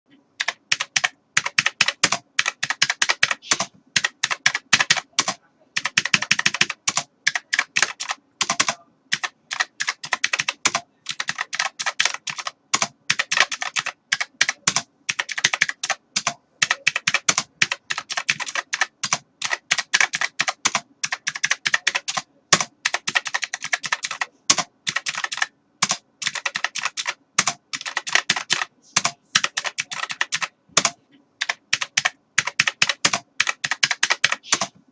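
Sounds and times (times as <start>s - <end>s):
typing on computer keyboard: 0.4s - 34.8s.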